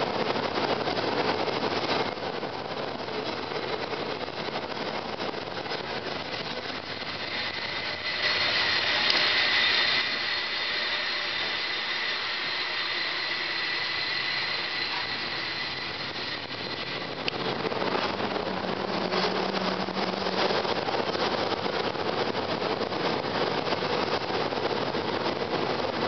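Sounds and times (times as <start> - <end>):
cable car rolling: 0.0 - 26.0
thin high whine: 0.0 - 26.0.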